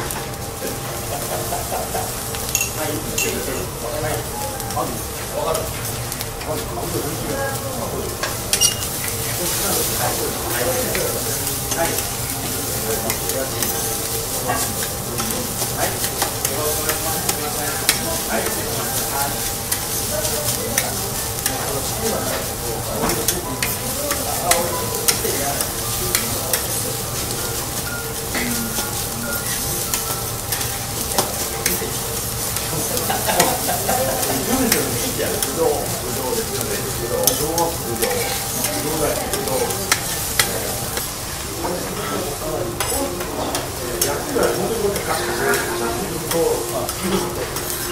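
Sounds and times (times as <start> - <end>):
rice sizzling on a griddle: 0.0 - 47.9
spatulas clicking on hot plate: 7.5 - 41.4, 42.7 - 47.9.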